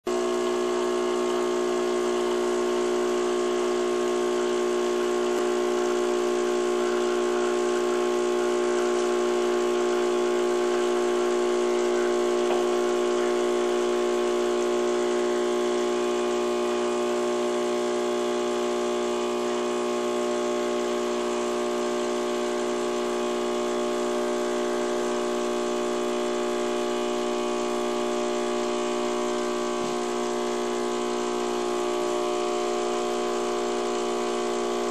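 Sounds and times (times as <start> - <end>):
coffee machine pump humming: 0.1 - 34.9.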